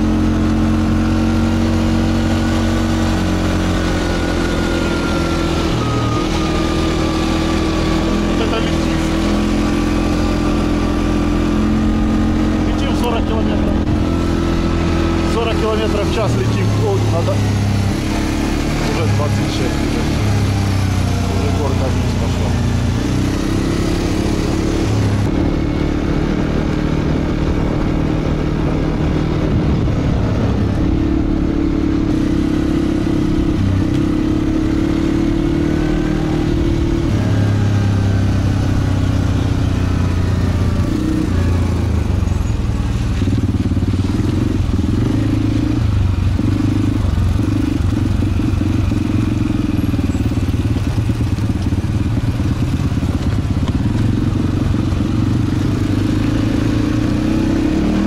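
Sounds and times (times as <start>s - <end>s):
quad bike engine droning: 0.0s - 58.0s.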